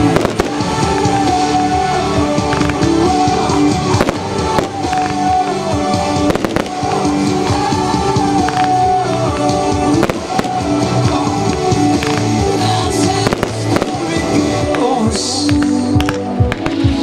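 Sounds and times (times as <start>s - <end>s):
fireworks bangs: 0.0s - 17.0s
loud music with held notes: 0.0s - 17.0s.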